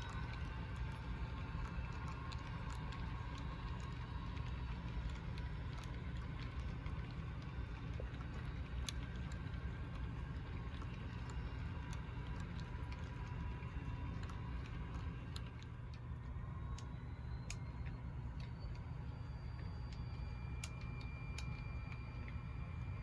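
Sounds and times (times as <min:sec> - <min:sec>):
faint steady tones: 0:00.0 - 0:23.0.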